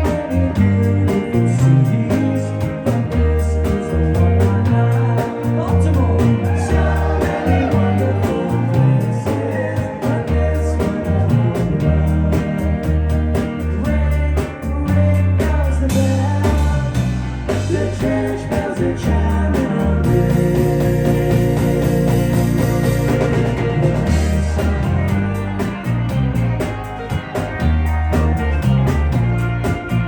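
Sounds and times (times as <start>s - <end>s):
person singing: 0.0s - 13.0s, 13.8s - 25.4s
heavy bass line: 0.0s - 30.0s
rock band playing live: 0.0s - 30.0s
steady drum beat: 0.0s - 30.0s.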